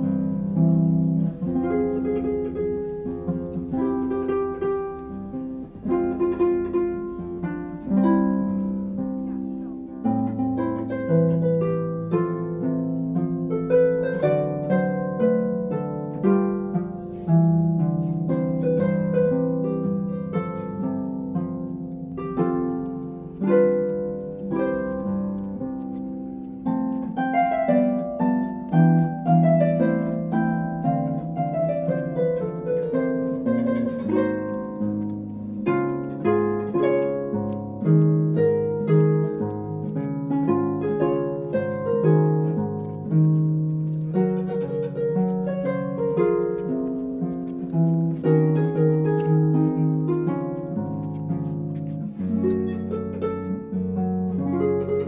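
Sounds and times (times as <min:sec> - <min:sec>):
harp music: 0:00.0 - 0:55.0.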